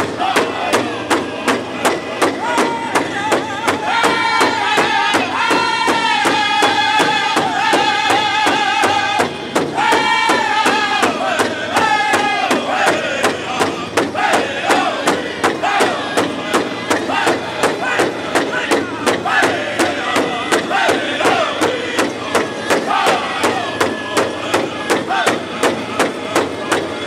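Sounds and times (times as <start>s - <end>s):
group singing in high unison: 0.0s - 27.0s
large drum beating: 0.0s - 27.0s.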